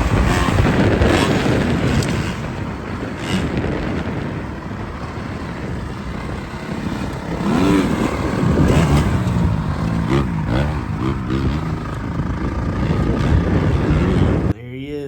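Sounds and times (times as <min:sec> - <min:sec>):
dirt bike engine revving: 0:00.0 - 0:14.5.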